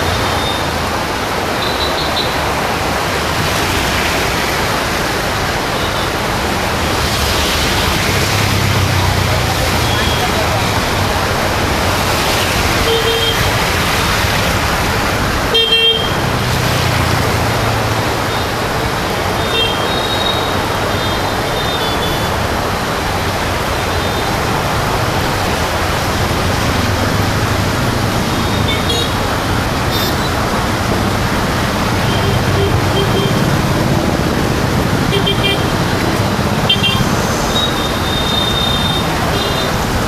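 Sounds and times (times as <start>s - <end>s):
road traffic: 0.0s - 40.0s
steady rain: 0.0s - 40.0s.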